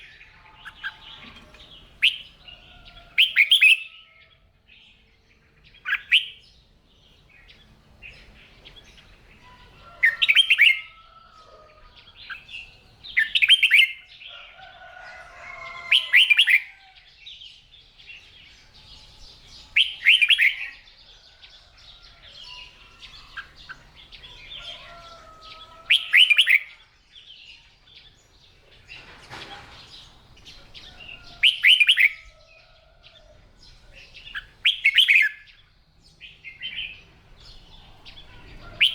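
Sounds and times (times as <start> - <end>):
bird warbled song phrases: 0.0 - 38.9.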